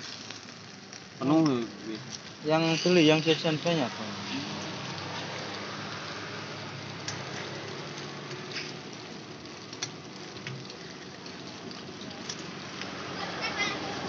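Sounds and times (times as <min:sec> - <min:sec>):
frying sizzle: 0:00.0 - 0:14.0.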